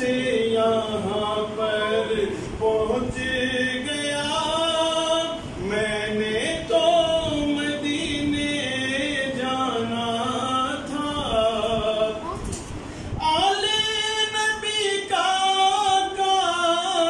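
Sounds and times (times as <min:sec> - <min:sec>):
man singing unaccompanied: 0:00.0 - 0:12.3, 0:13.1 - 0:17.0.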